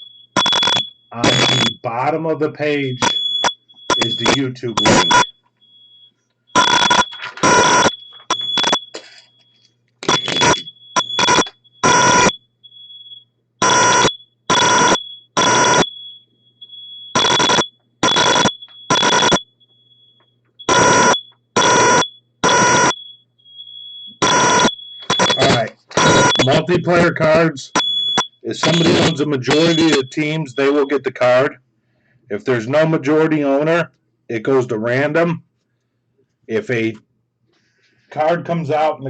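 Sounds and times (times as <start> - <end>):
fire alarm beeping: 0.0 - 32.1.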